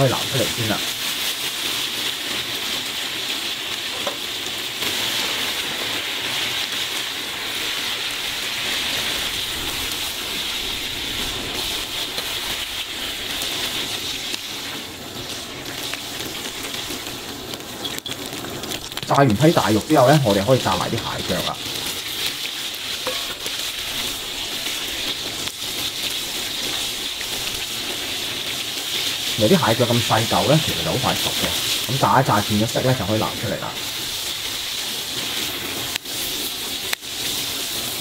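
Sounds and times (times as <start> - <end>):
deep-frying sizzle in oil: 0.0 - 38.0.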